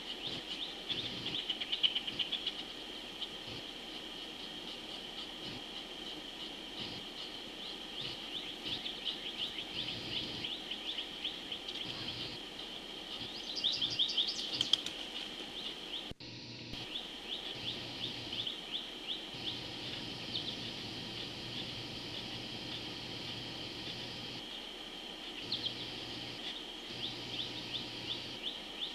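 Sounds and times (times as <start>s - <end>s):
high insect drone: 0.0s - 28.9s.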